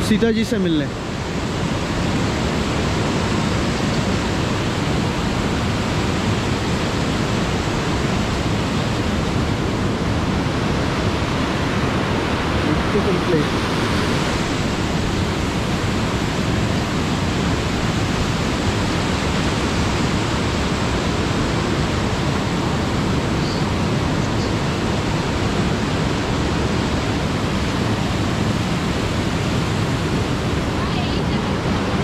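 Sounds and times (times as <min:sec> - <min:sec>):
stream and waterfall rushing: 0:00.0 - 0:32.0.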